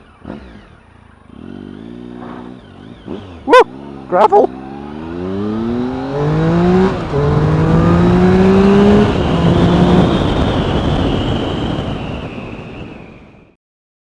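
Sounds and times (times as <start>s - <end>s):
motorcycle engine accelerating: 0.0s - 12.8s.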